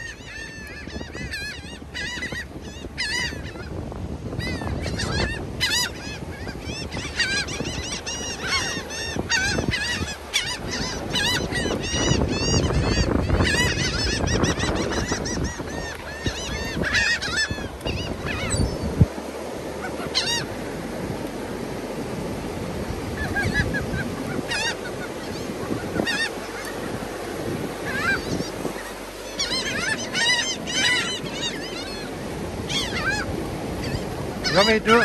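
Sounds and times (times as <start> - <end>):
gulls calling: 0.0 - 35.0.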